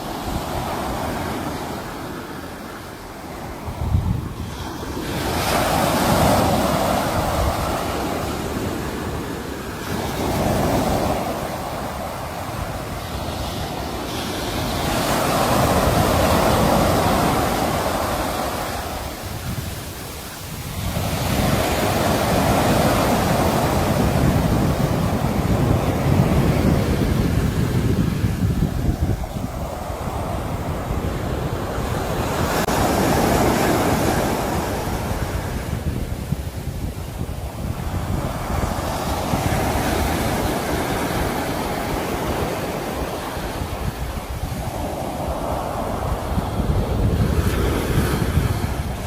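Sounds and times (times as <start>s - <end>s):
sea waves breaking on shore: 0.0s - 49.0s.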